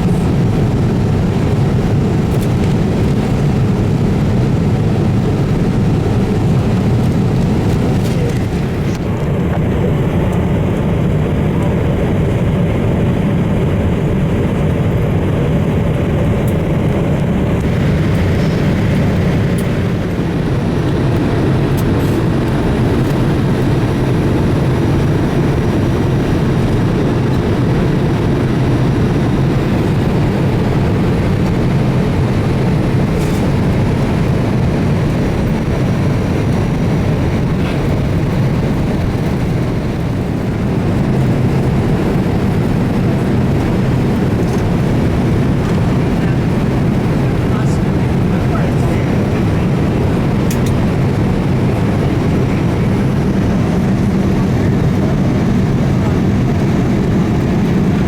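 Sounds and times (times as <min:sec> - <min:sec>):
jet engine cabin rumble: 0:00.0 - 0:58.0.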